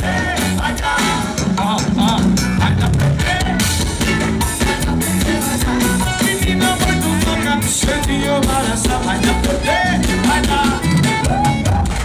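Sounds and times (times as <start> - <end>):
live band playing: 0.0 - 12.0
man singing: 0.0 - 12.0.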